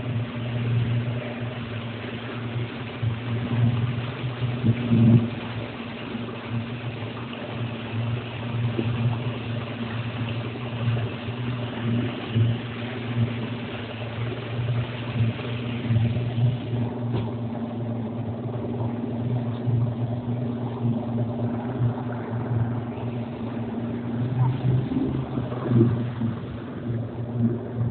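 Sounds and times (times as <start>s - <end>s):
motorboat engine rumbling: 0.0s - 27.9s.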